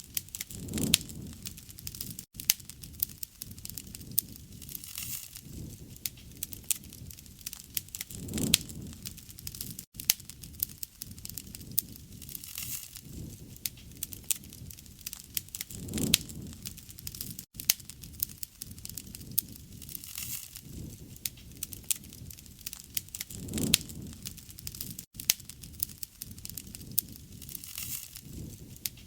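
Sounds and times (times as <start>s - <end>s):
flames rushing: 0.0s - 29.0s
wood fire crackling and popping: 0.0s - 29.0s.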